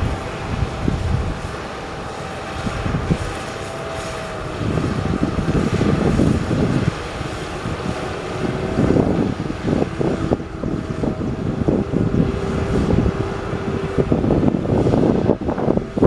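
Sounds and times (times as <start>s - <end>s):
faint steady whine: 0.0s - 16.0s
heavy machinery engine running: 0.0s - 16.0s.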